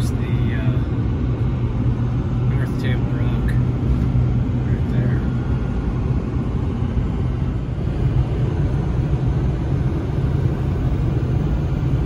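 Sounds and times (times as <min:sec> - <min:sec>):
constant low hum: 0:00.0 - 0:12.0
engine and tyre rumble in car cabin: 0:00.0 - 0:12.0.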